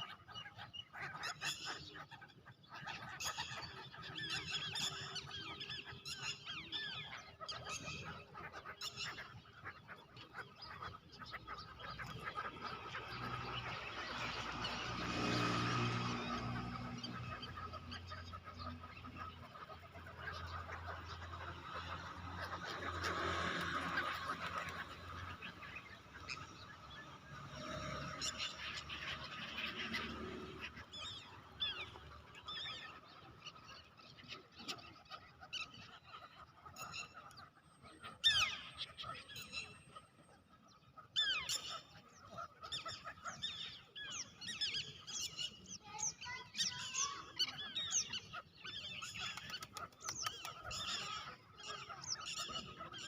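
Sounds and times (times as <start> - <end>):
birds chirping and calling: 0.0 - 53.0.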